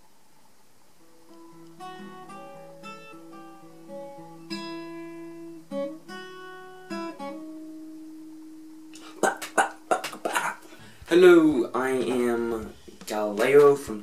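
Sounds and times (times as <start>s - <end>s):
acoustic guitar playing: 1.0s - 14.0s.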